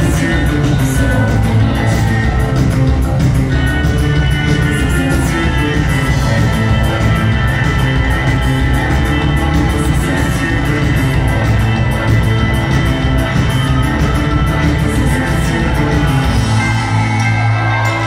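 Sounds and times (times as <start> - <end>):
live rock band playing: 0.0 - 18.0
steady drum beat: 0.0 - 18.0.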